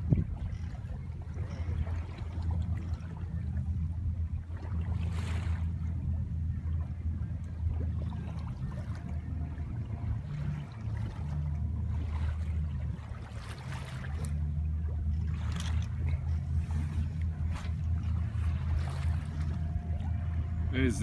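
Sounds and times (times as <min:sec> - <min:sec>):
boat engine droning: 0:00.0 - 0:21.0
water splashing against hull: 0:00.0 - 0:21.0.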